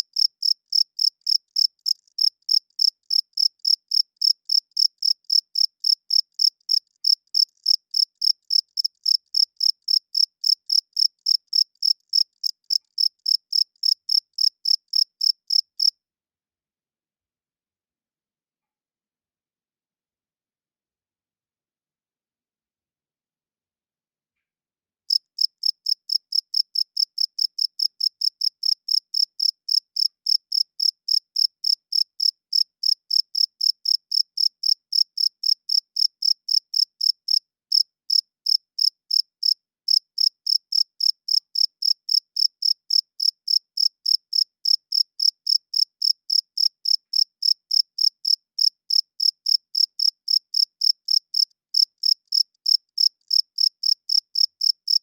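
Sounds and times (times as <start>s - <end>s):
cricket chirping: 0.1s - 15.9s, 25.1s - 55.0s.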